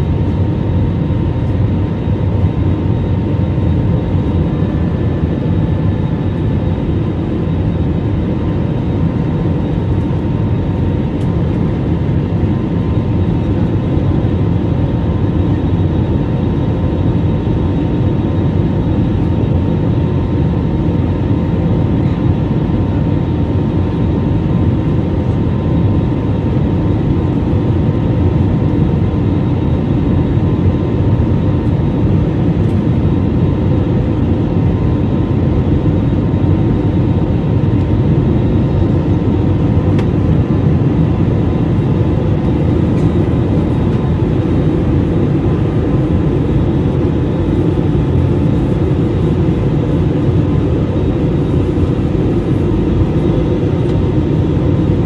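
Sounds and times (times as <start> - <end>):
airplane cabin engine noise: 0.0 - 55.0
thin steady whine: 0.0 - 55.0.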